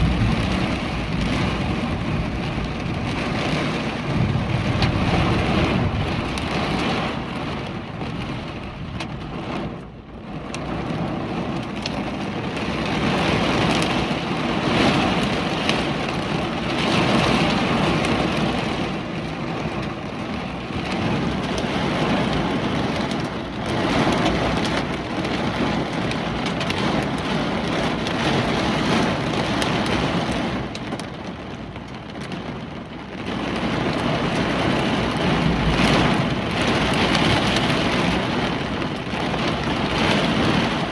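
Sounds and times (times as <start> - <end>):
gusting wind: 0.0 - 40.9
heavy rain: 0.0 - 40.9.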